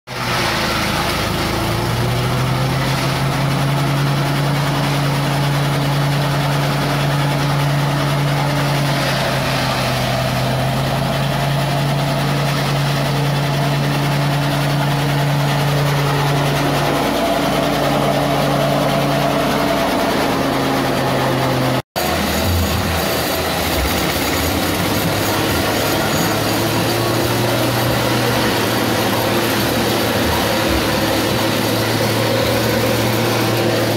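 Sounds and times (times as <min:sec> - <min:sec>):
forage chopper engine running: 0:00.1 - 0:33.9.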